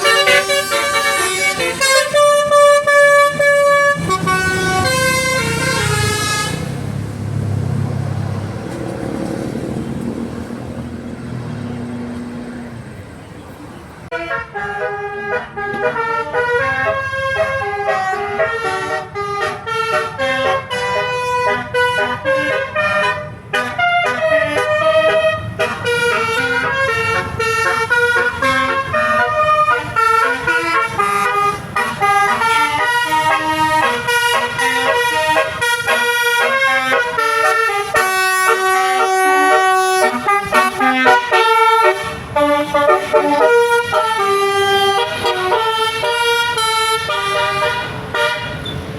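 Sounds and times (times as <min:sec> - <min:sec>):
musical bus horn playing a tune: 0:00.0 - 0:07.0, 0:14.1 - 0:48.9.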